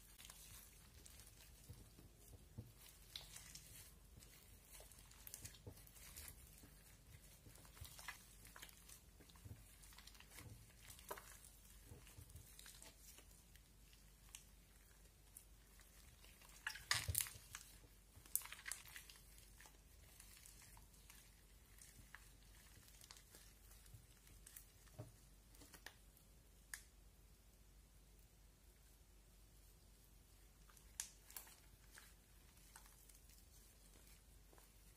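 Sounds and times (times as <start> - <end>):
slime clicking and crackling: 0.0 - 26.9, 30.6 - 34.9.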